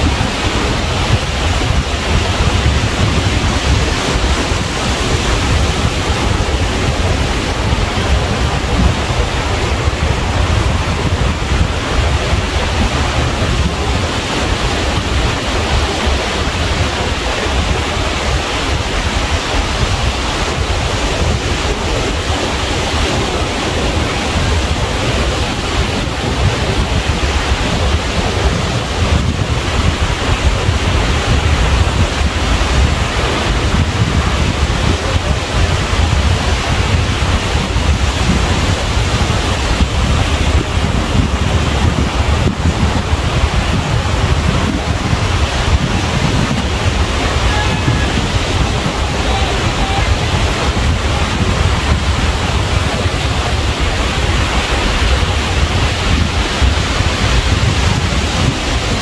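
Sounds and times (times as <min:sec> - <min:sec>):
ocean surf washing: 0:00.0 - 0:59.0
wind buffeting microphone: 0:00.0 - 0:59.0.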